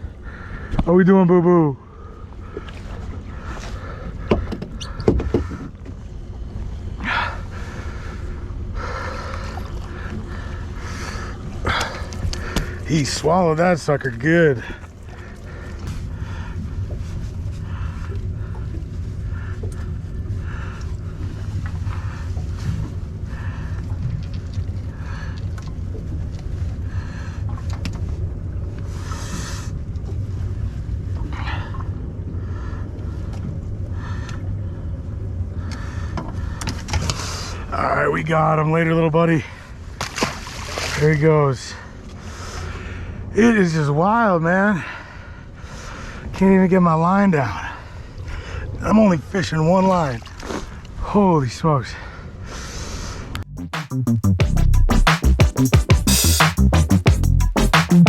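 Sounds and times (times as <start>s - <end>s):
boat motor rumble: 0.0s - 58.0s.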